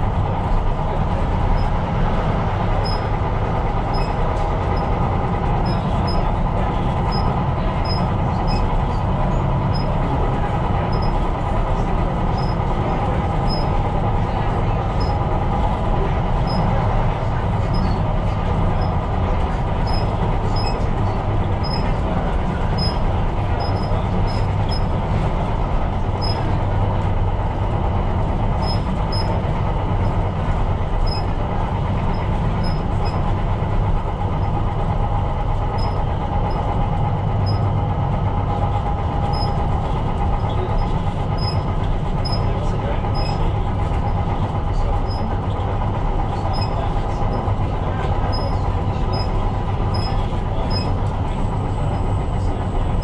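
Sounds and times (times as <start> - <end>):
constant hum: 0.0 - 53.0
train rumble: 0.0 - 53.0.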